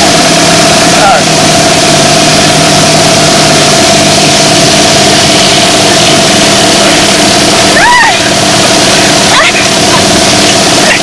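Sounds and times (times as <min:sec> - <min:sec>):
mechanical hum with high whine: 0:00.0 - 0:11.0
heavy film hiss: 0:00.1 - 0:11.0.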